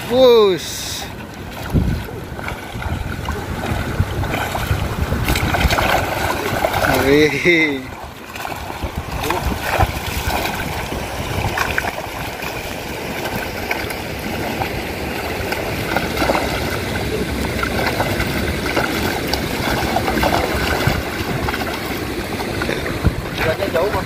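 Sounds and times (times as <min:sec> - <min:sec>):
water splashing: 0:00.0 - 0:24.0.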